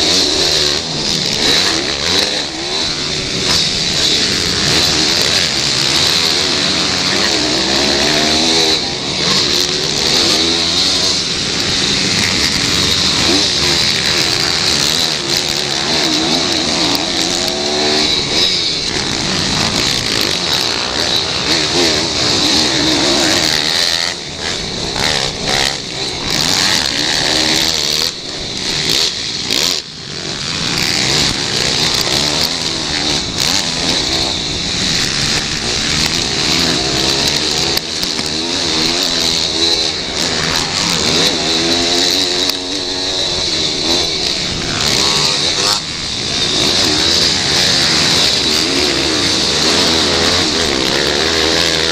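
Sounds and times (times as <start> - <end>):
pit bike engines racing: 0.0 - 51.9.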